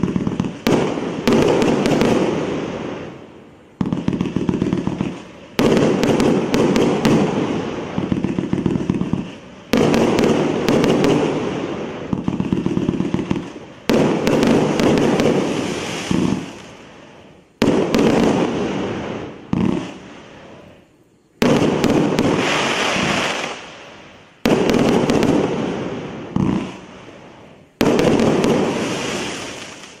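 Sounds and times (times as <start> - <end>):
fireworks volleys: 0.0 - 30.0.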